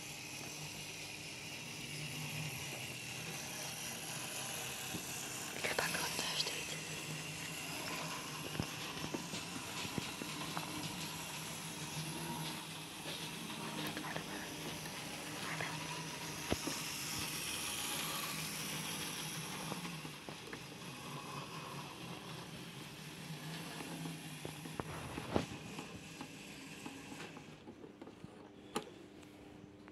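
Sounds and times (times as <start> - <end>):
model train running on track: 0.0 - 27.6.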